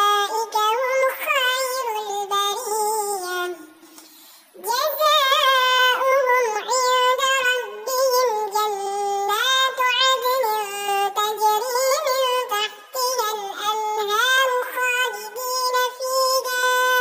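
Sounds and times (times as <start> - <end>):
child-like voice chanting recitation: 0.0 - 3.8, 4.6 - 17.0.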